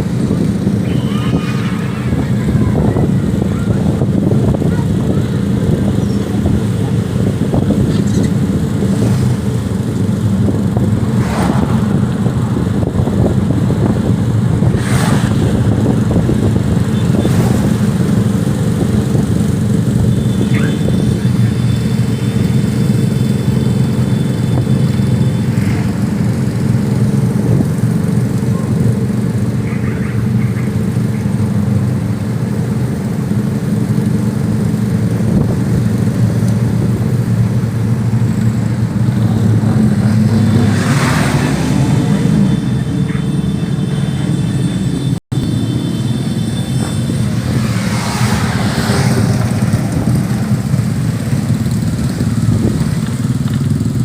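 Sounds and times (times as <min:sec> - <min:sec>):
motorcycle engines running: 0:00.0 - 0:54.0.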